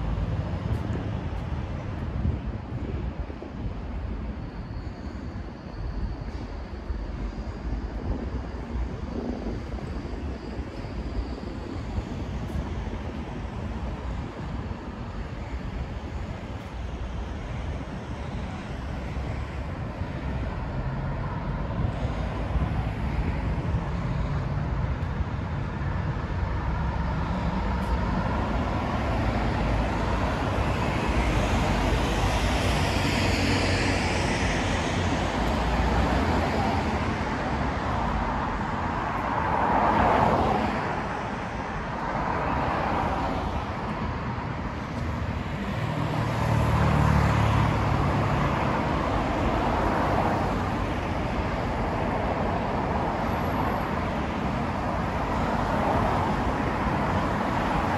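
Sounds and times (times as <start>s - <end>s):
cars passing by: 0.0s - 3.8s, 11.9s - 57.9s
road traffic: 0.0s - 57.9s.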